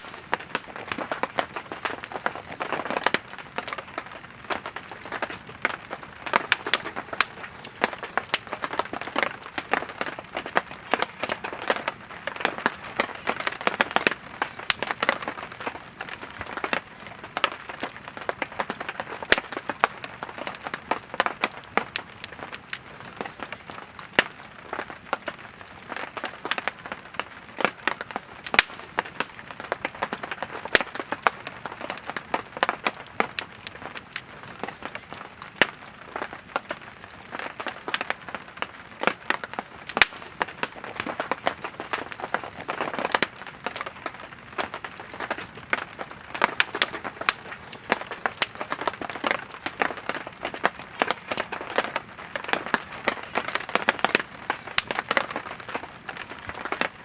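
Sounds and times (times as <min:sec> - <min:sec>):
campfire hiss: 0:00.0 - 0:57.0
firewood crackling and popping: 0:00.0 - 0:57.0.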